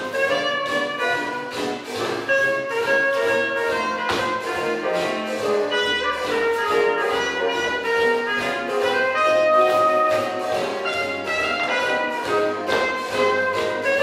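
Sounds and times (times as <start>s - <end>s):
swing jazz with horns: 0.0s - 14.0s.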